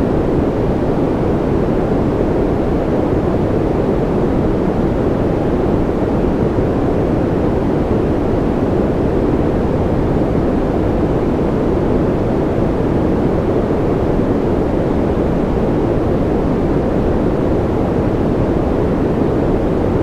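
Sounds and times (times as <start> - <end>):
white noise: 0.0 - 20.0.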